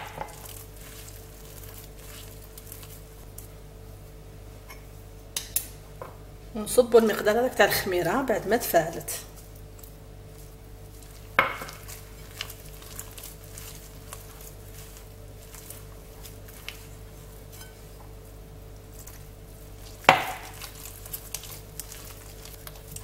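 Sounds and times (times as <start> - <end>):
hand squishing sticky dough: 0.0 - 4.2, 8.6 - 23.0
faint steady hum: 0.0 - 23.0.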